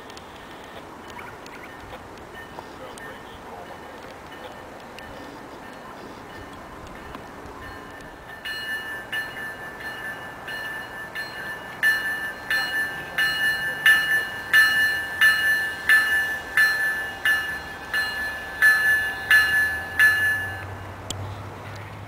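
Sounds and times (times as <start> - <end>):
locomotive bell ringing: 1.0 - 21.0.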